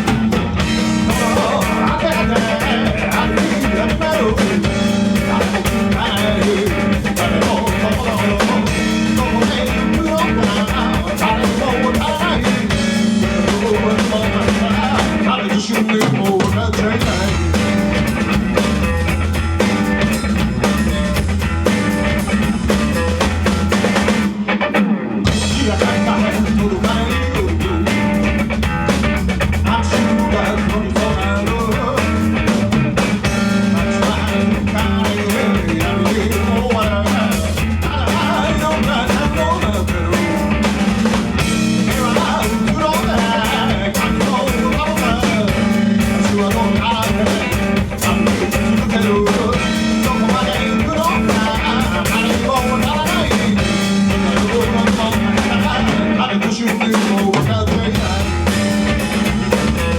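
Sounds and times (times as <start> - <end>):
person singing: 0.0 - 17.8, 25.3 - 28.3, 29.6 - 40.8, 41.4 - 59.9
drum rimshots and bass drum: 0.0 - 24.4, 25.2 - 59.9
guitar: 0.0 - 59.9
live band playing: 0.0 - 59.9.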